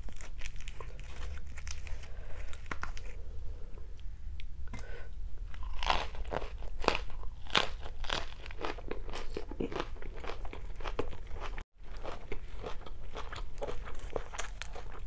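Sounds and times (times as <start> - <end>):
person crunching lettuce wrap: 0.0 - 3.2, 5.5 - 15.0.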